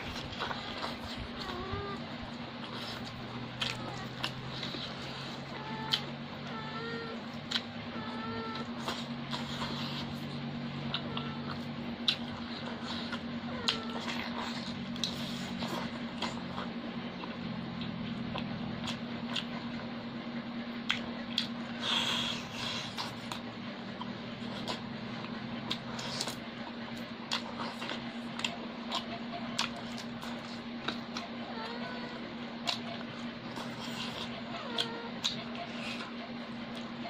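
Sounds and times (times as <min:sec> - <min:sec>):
wet chewing: 0:00.0 - 0:20.1, 0:20.7 - 0:37.0
steady low hum: 0:00.0 - 0:37.0.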